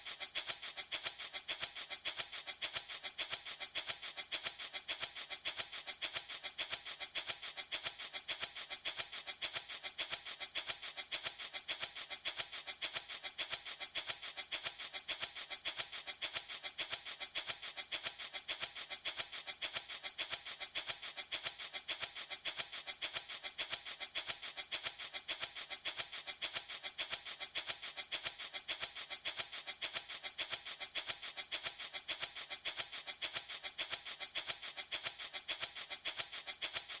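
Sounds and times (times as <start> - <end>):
baby rattle shaken: 0.0 - 37.0.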